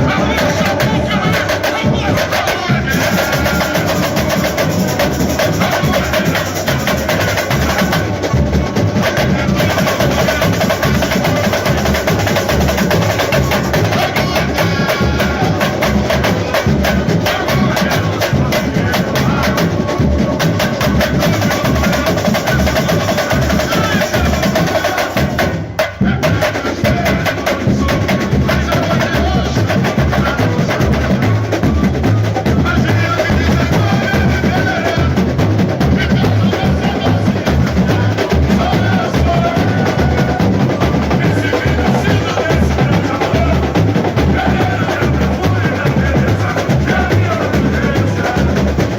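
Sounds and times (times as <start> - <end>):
samba drum section playing: 0.0 - 48.9
singing over sound system: 0.0 - 48.9.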